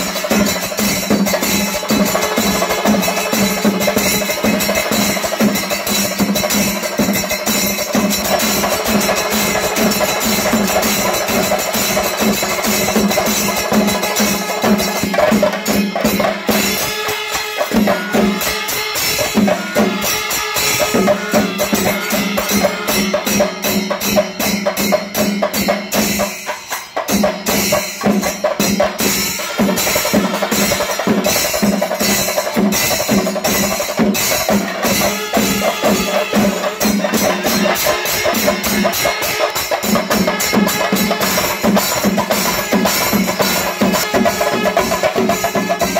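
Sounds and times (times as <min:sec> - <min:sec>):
drums beating fast: 0:00.0 - 0:45.9.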